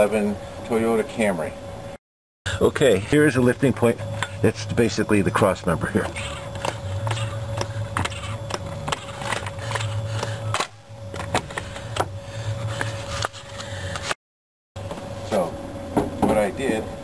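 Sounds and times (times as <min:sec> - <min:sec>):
low steady hum: 0:00.0 - 0:14.2.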